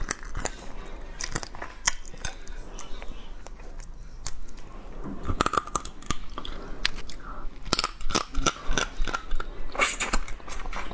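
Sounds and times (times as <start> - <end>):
close chewing: 0.0 - 10.9.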